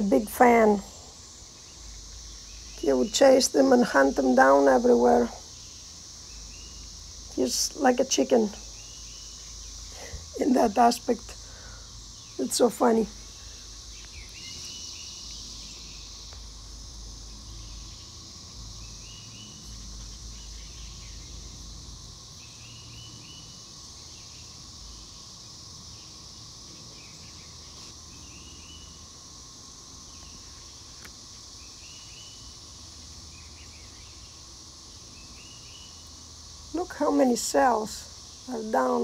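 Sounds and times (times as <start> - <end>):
cicada chorus drone: 0.0 - 39.0
high hiss: 0.0 - 39.0.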